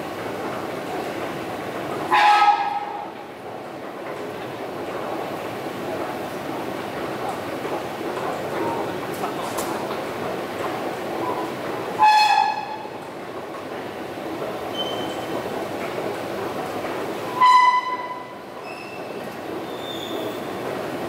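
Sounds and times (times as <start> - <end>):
subway station rumble: 0.0 - 21.0.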